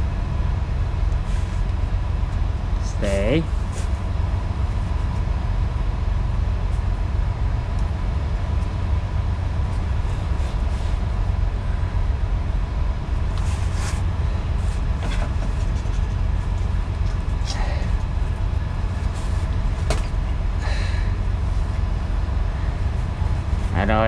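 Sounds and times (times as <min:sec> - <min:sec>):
low machine rumble: 0:00.0 - 0:24.0.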